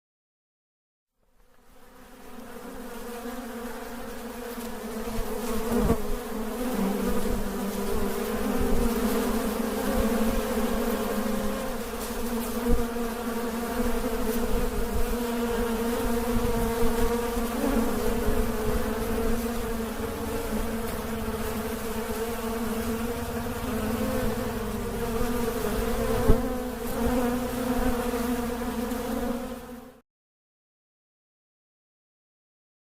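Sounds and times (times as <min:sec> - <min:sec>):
honeybees buzzing: 0:01.4 - 0:30.0.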